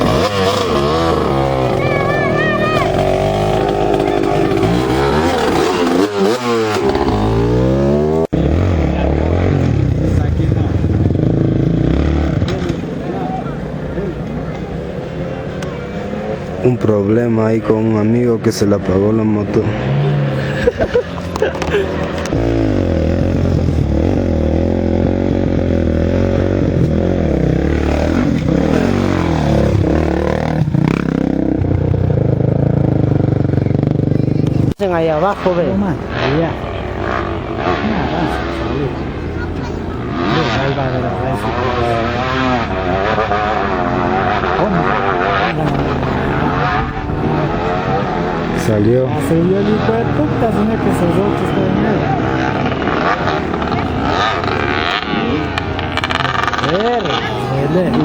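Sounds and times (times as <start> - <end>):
racing motorcycles passing: 0.0 - 58.0.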